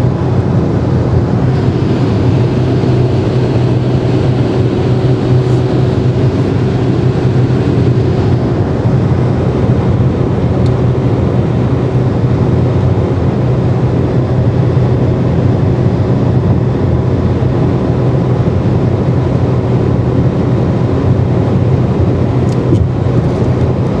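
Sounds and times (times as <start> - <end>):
car engine drone in cabin: 0.0 - 24.0
wind and road noise: 0.0 - 24.0.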